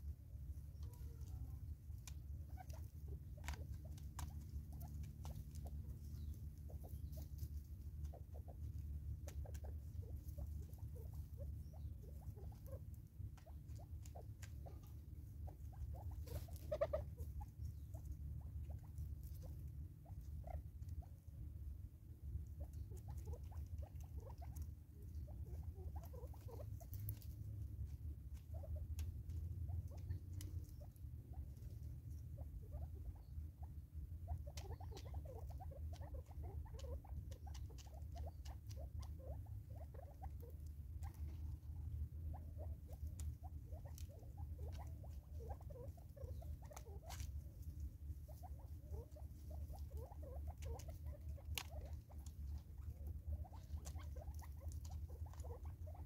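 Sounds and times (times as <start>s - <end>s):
birds pecking at seed feeder: 0.0s - 56.0s
low steady rumble: 0.0s - 56.0s.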